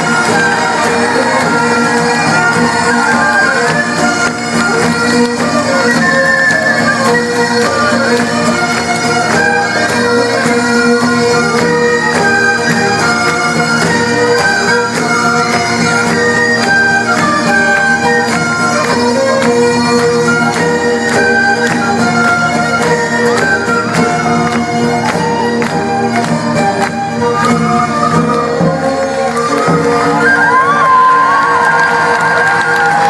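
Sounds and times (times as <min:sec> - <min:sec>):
bagpipes playing melody: 0:00.0 - 0:33.0
fiddles: 0:00.0 - 0:33.0.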